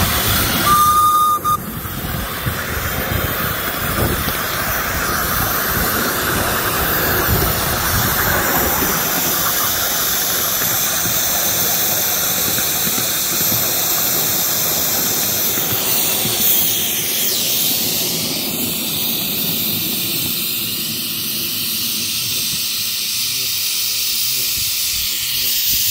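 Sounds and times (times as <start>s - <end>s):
steam hissing: 0.0s - 25.9s
steam locomotive running rumble: 0.0s - 25.9s.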